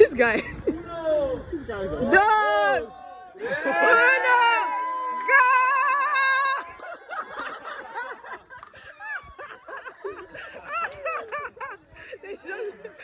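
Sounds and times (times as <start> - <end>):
people laughing and whooping: 2.1 - 13.0.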